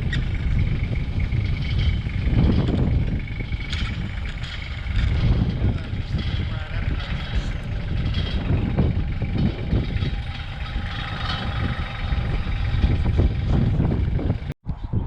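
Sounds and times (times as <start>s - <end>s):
heavy machinery engine rumbling: 0.0s - 14.6s.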